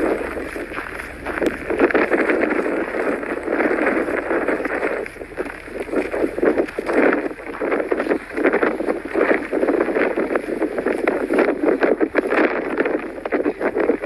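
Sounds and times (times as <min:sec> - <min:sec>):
gusty blizzard wind: 0:00.0 - 0:14.0.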